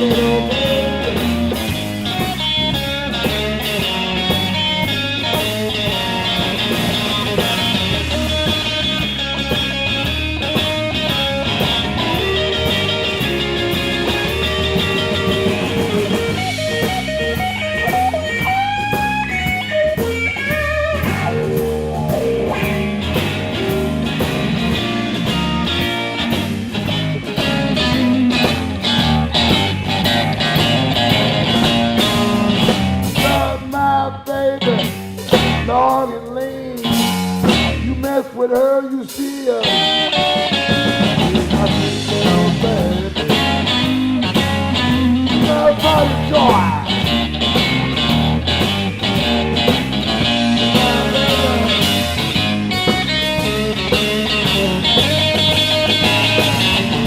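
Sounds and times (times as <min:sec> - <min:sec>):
steady drum beat: 0:00.0 - 0:34.0, 0:34.8 - 0:57.0
bass: 0:00.0 - 0:57.0
electric guitar lead: 0:00.0 - 0:57.0.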